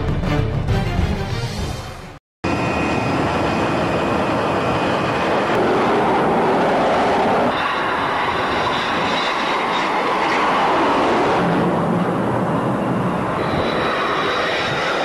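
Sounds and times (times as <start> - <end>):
jet engines running at high power: 2.4 - 15.0.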